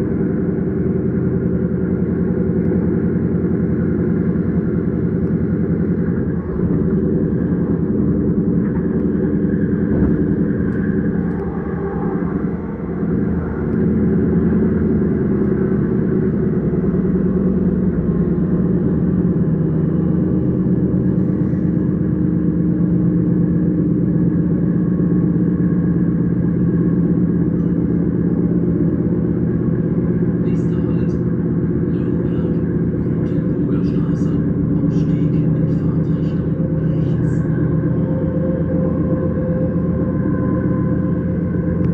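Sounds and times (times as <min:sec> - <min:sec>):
electric train rumbling: 0:00.0 - 0:41.9.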